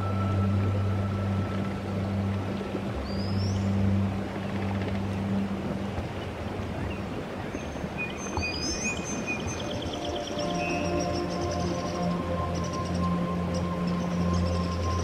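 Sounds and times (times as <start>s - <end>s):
low droning hum: 0.0s - 15.0s
steady noisy wash: 0.0s - 15.0s.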